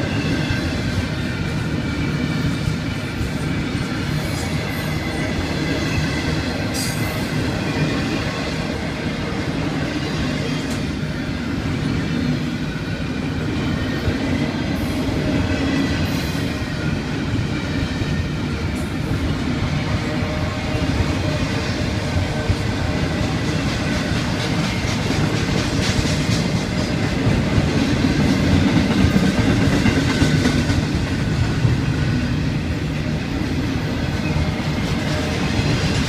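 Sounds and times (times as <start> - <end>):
steel wheels rumbling on rail: 0.0 - 36.0.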